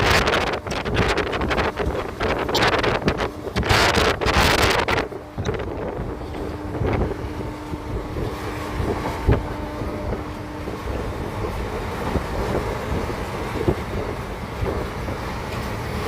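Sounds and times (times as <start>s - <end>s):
train wheels rumbling: 0.0s - 16.0s
wind on microphone: 0.0s - 16.0s.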